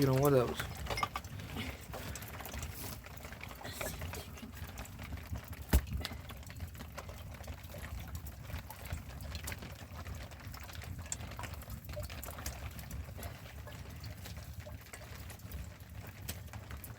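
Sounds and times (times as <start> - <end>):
water splashing and trickling: 0.0 - 16.9.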